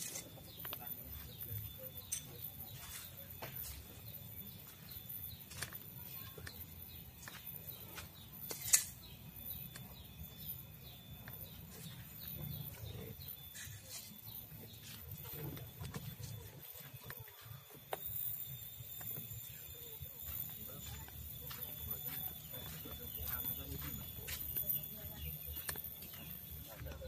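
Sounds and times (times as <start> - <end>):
bird chirps: 0.0 - 27.0.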